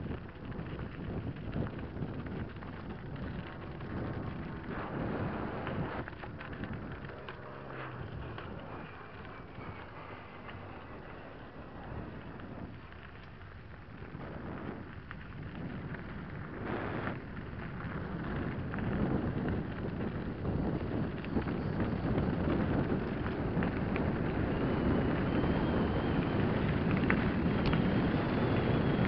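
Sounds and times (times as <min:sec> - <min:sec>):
tyres crunching over gravel: 0:00.0 - 0:26.1
bike rattling: 0:00.0 - 0:29.0
wind buffeting microphone: 0:00.0 - 0:29.0.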